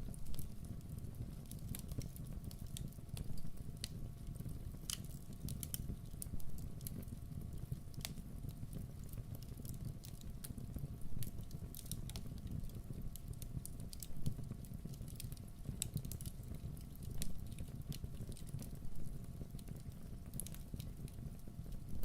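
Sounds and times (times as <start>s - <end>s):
campfire crackling and popping: 0.0s - 22.0s
low rumble of fire: 0.0s - 22.0s.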